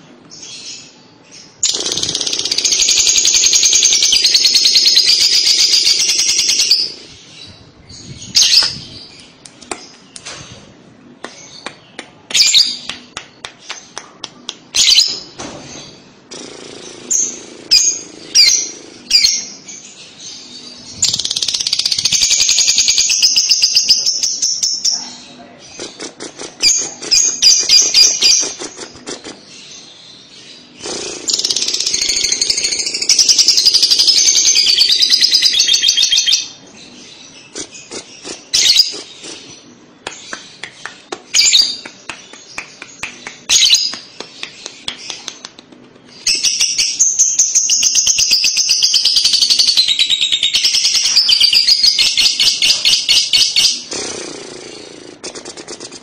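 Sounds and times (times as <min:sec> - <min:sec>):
lovebird chattering song: 0:00.4 - 0:10.3, 0:14.7 - 0:56.0.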